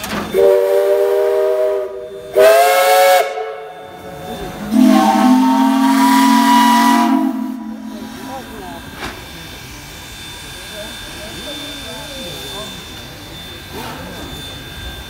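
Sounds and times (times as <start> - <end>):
steam locomotive chime whistle: 0.0 - 8.4, 10.1 - 15.0.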